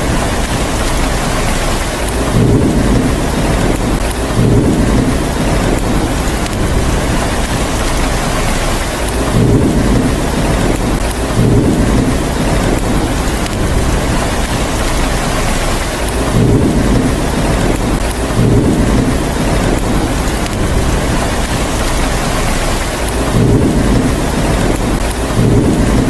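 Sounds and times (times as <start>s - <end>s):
heavy rainfall: 0.0s - 26.0s
thunder rumbling: 0.0s - 26.0s.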